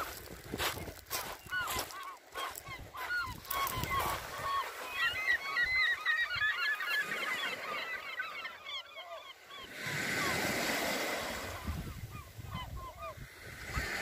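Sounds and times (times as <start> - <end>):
gulls calling: 0.0 - 14.0.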